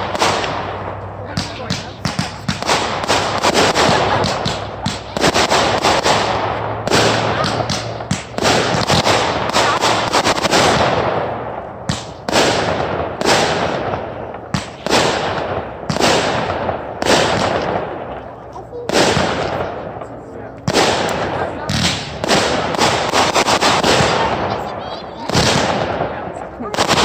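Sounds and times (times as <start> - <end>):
fireworks banging and crackling: 0.0 - 27.0.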